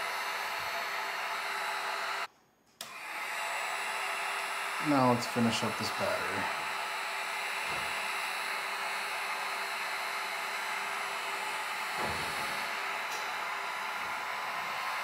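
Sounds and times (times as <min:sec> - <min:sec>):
heat gun blowing air: 0:00.0 - 0:15.0.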